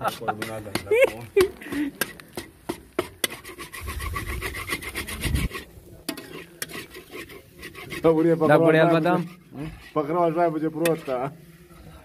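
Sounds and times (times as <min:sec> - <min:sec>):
metal spatula scraping iron pan: 0:00.0 - 0:12.0.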